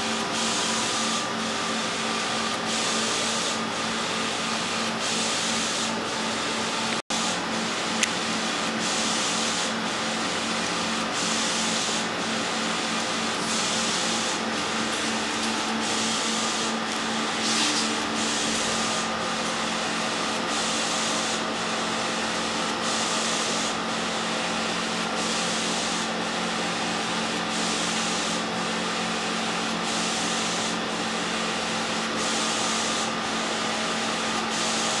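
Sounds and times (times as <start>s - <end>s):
printer carriage sweeping with hiss: 0.0s - 35.0s
steady printer hum: 0.0s - 35.0s.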